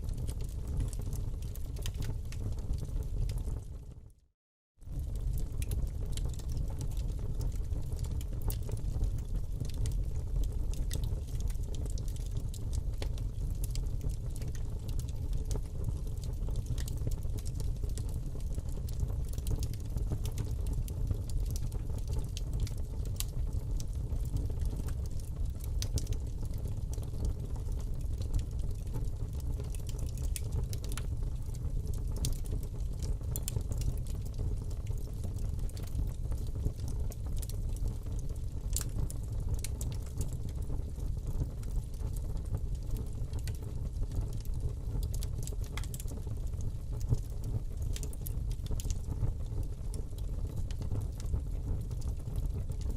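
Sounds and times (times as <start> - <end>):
fire crackling and popping: 0.0 - 4.1, 4.8 - 52.9
fire rumbling in fireplace: 0.0 - 4.2, 4.8 - 52.9.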